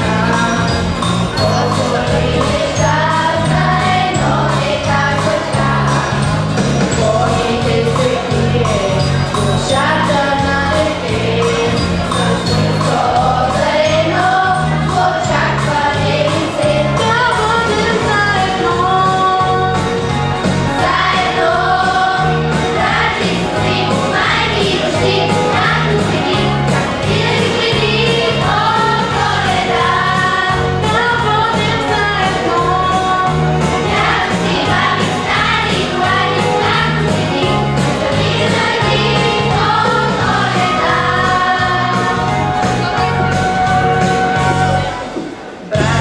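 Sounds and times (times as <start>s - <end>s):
backing track with steady beat: 0.0s - 46.0s
children's choir singing: 0.0s - 46.0s.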